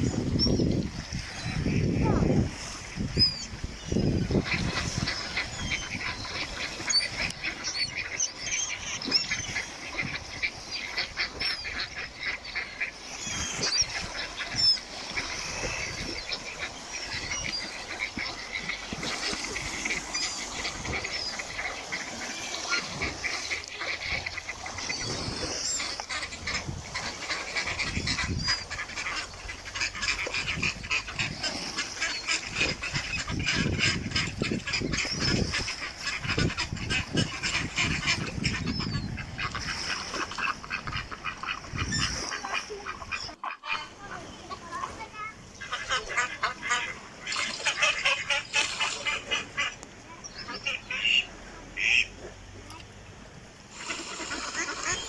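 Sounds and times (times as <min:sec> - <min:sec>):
ducks quacking: 0:00.0 - 0:52.5, 0:53.7 - 0:55.0.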